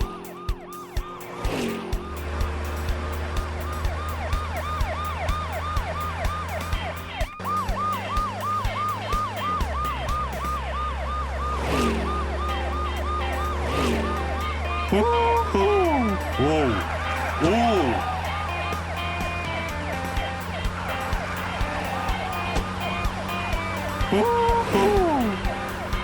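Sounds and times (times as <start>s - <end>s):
music with steady beat: 0.0s - 10.8s, 12.4s - 26.0s
cartoon police siren yelping: 3.6s - 26.0s.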